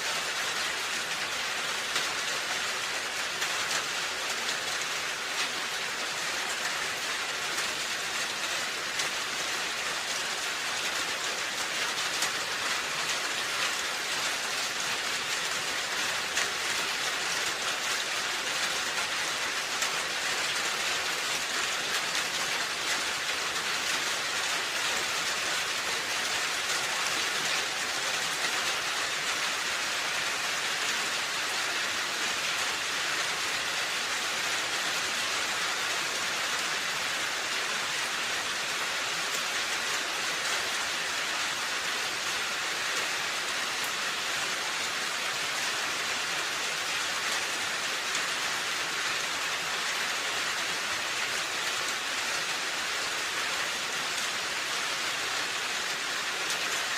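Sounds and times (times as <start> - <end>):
rain falling on a roof: 0.0 - 56.9.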